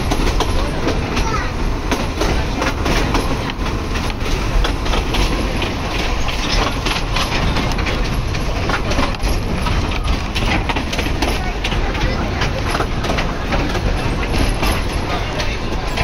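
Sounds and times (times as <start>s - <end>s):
train rumble: 0.0s - 16.0s
wheels clattering on rails: 0.0s - 16.0s.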